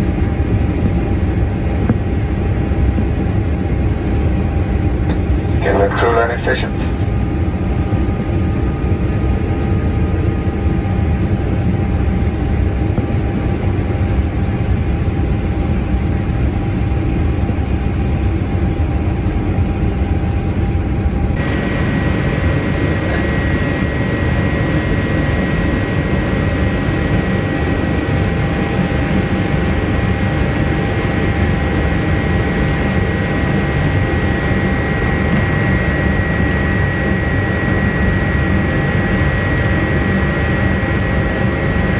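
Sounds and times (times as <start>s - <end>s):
airliner cabin engine roar: 0.0s - 41.9s
steady high whine: 0.1s - 9.8s, 11.4s - 41.9s.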